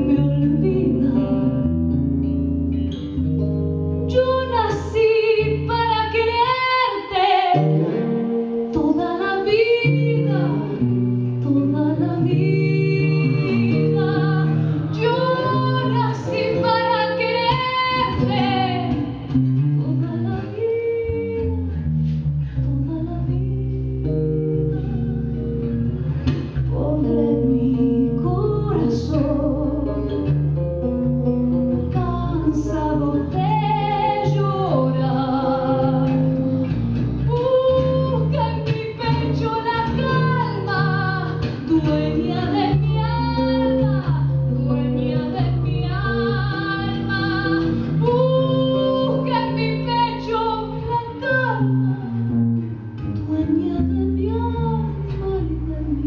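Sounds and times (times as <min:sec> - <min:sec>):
woman singing into a microphone: 0:00.0 - 0:02.4, 0:04.0 - 0:25.2, 0:26.6 - 0:30.4, 0:31.5 - 0:56.0
acoustic guitar: 0:00.0 - 0:56.0.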